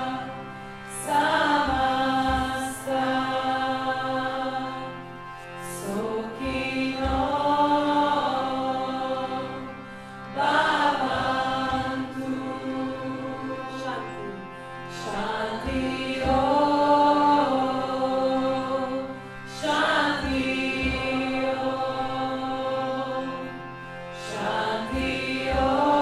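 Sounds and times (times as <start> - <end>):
harmonium drone: 0.0 - 26.0
women chanting a devotional mantra: 0.0 - 26.0.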